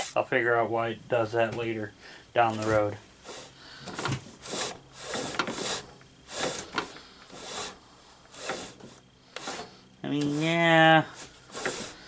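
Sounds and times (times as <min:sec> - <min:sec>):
steering shaft scraping: 0:01.2 - 0:12.0.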